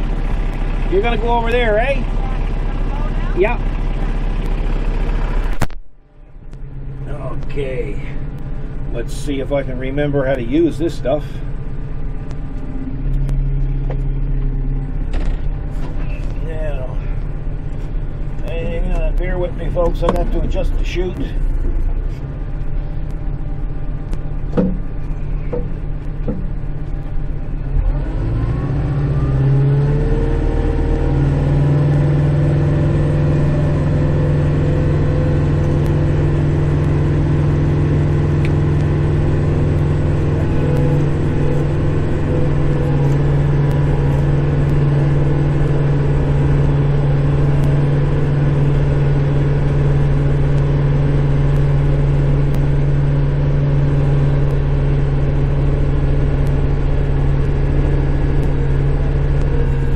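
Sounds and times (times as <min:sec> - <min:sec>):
tractor diesel engine revving: 0:00.0 - 0:59.9.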